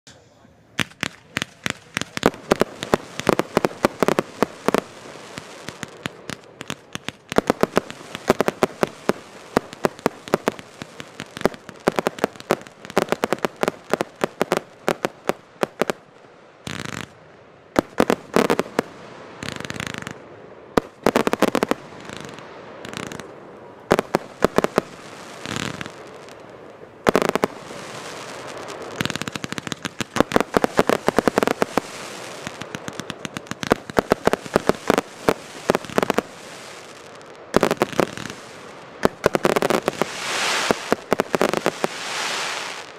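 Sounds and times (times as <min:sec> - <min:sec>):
firework hissing: 0:00.8 - 0:16.1, 0:17.8 - 0:20.2, 0:20.8 - 0:42.9.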